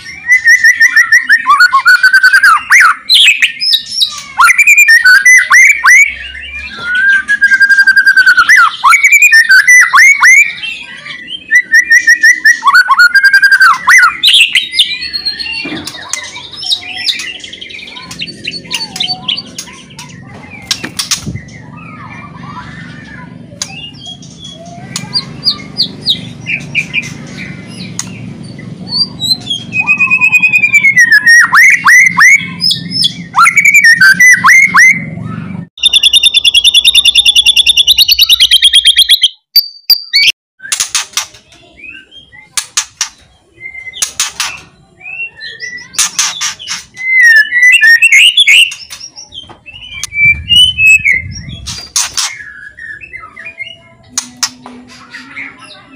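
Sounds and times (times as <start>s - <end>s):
bird singing whistled phrases: 0.0s - 27.1s, 28.9s - 40.8s, 43.6s - 54.2s.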